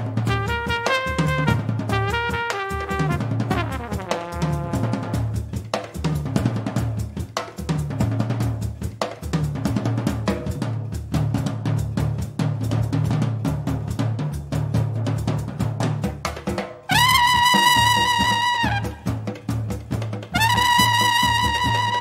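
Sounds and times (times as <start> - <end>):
jazz drum kit groove: 0.0 - 22.0.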